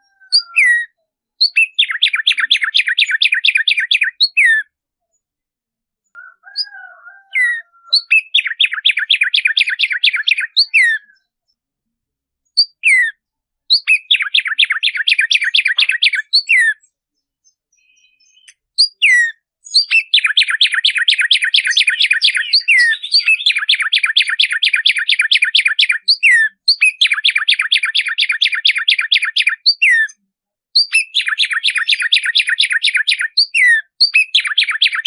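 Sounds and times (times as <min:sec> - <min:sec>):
sparrow singing: 0:00.0 - 0:05.3, 0:06.1 - 0:11.7, 0:12.4 - 0:30.2, 0:30.8 - 0:35.0.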